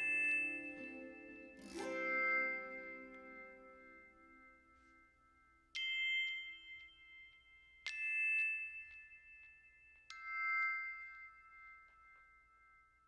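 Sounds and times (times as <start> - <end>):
soft bell-like music notes: 0.0 - 13.0.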